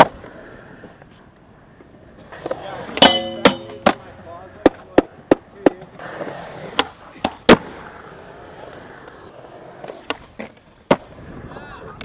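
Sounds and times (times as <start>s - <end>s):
skateboard clacks: 0.0s - 12.0s
skateboard wheels rolling: 0.0s - 12.0s.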